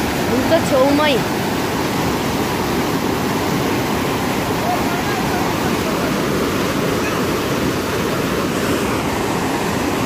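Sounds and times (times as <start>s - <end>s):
river rushing over boulders: 0.0s - 10.0s.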